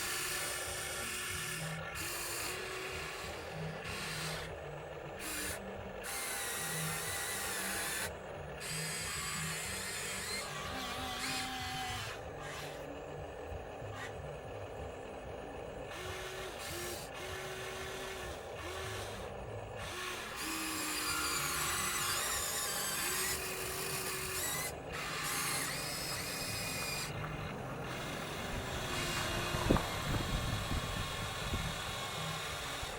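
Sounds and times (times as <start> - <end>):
small electric motors whining: 0.0 - 32.9.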